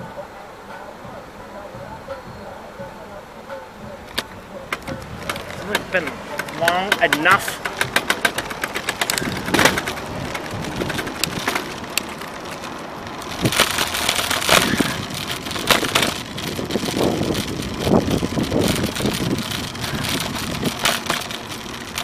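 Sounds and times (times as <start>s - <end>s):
wind rushing over microphone: 0.0s - 22.0s
bicycle clicks and rattles: 4.1s - 22.0s.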